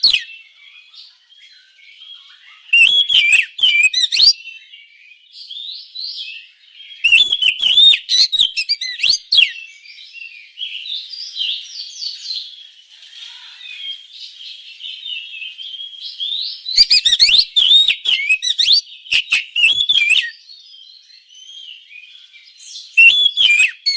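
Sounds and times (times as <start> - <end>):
bird singing whistled notes: 0.0 - 12.8, 13.8 - 23.9.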